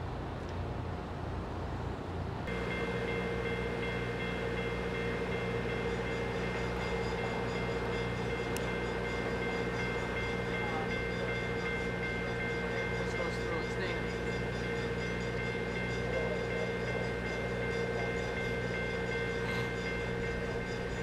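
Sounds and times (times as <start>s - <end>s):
train horn sustained chord: 2.5s - 21.0s.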